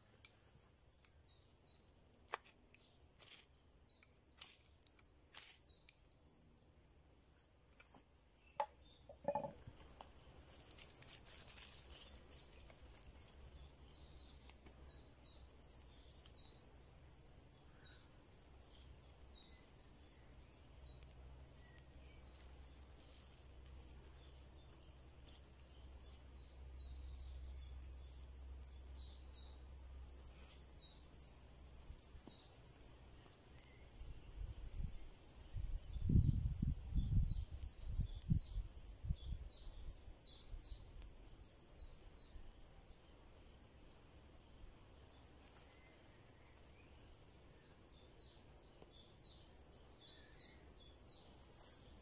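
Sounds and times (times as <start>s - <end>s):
small birds singing: 0.0s - 52.0s.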